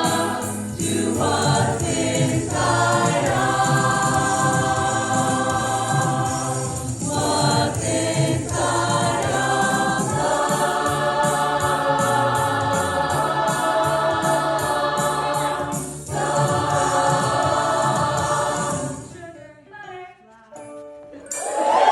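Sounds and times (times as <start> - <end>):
choir singing held notes: 0.0 - 19.1.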